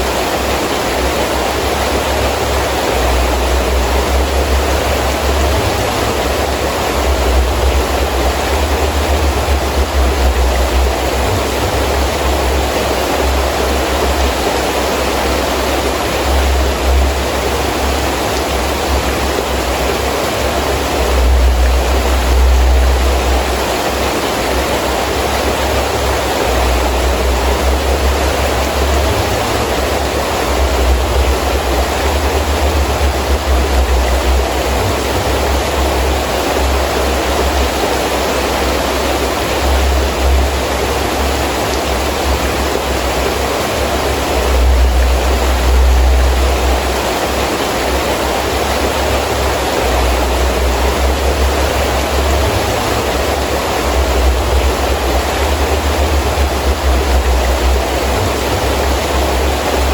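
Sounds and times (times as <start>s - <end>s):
gusting wind rumble: 0.0s - 59.9s
heavy rain falling: 0.0s - 59.9s.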